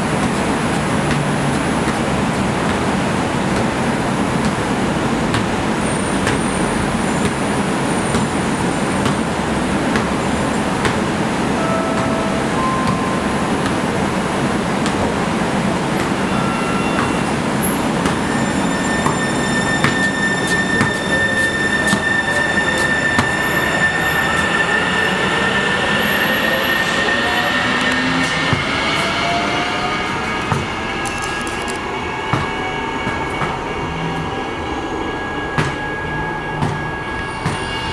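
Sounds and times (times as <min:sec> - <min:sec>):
train rushing noise: 0:00.0 - 0:37.9.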